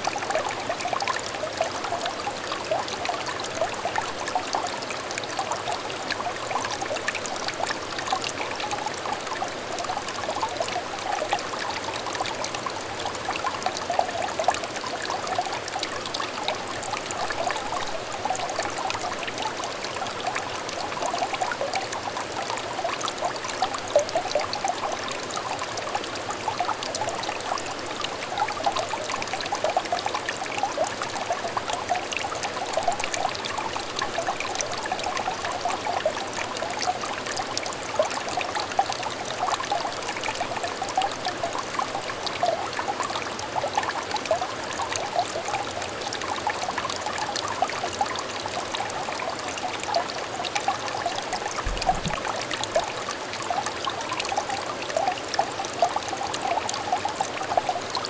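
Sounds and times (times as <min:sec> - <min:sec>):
stream babbling over stones: 0:00.0 - 0:58.0.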